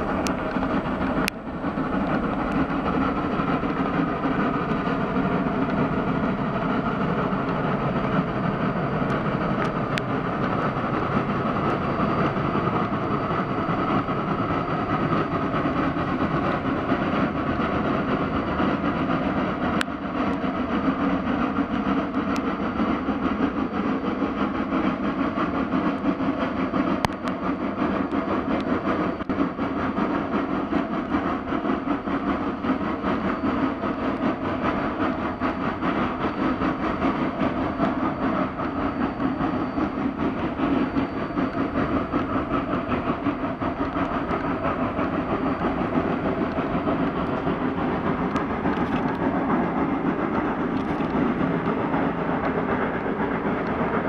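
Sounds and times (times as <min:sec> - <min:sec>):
steam locomotive chuffing: 0:00.0 - 0:54.0
train running noise: 0:00.0 - 0:54.0.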